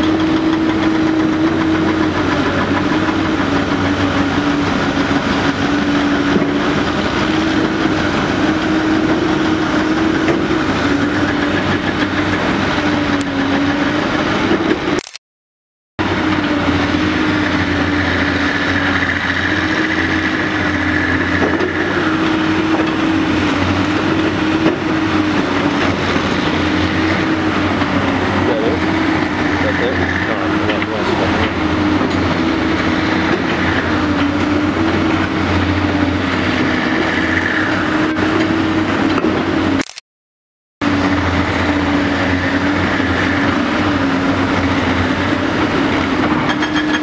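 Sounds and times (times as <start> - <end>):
excavator diesel engine running: 0.0 - 15.2, 16.0 - 40.0, 40.8 - 47.0.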